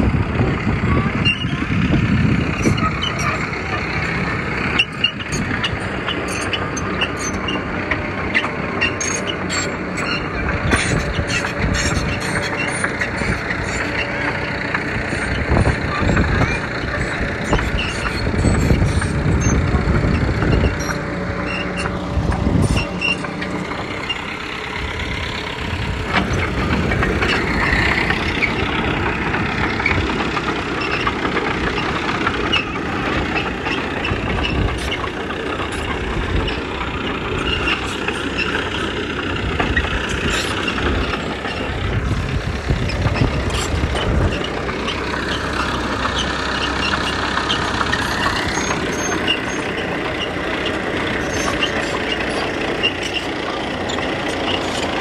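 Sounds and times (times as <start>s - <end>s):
diesel earthmoving machinery running: 0.0s - 55.0s.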